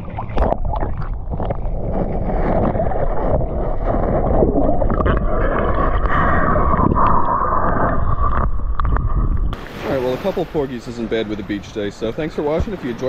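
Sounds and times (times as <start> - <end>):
muffled underwater sloshing: 0.0 - 13.0.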